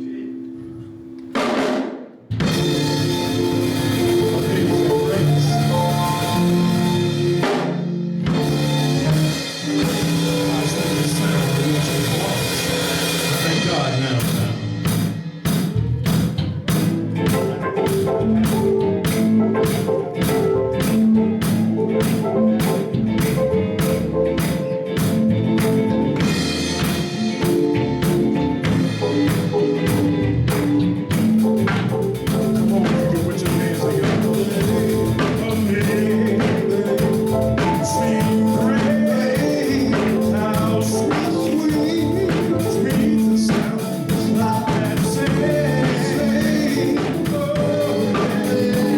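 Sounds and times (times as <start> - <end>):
gospel band music: 0.0 - 48.9
steady drum beat: 0.8 - 48.9.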